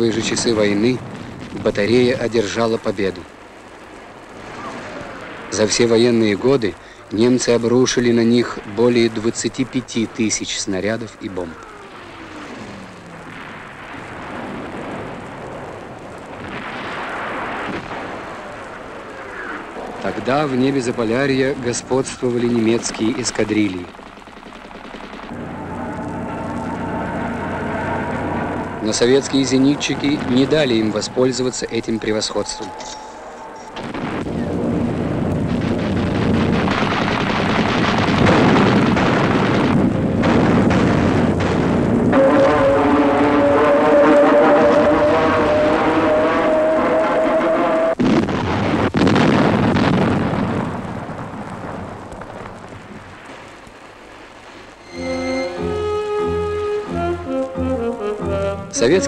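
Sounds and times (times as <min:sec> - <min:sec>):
anti-aircraft guns firing: 0:00.0 - 0:44.0, 0:48.0 - 0:54.6
rumble of explosions: 0:00.0 - 0:59.0.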